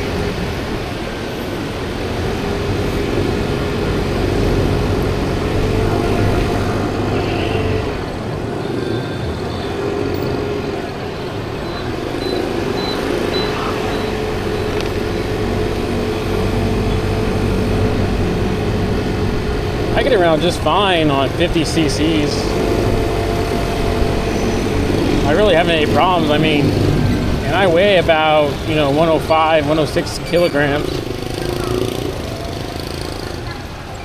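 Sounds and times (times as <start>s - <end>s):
scooter engine hum: 0.0s - 34.0s
wind and road noise: 0.0s - 34.0s.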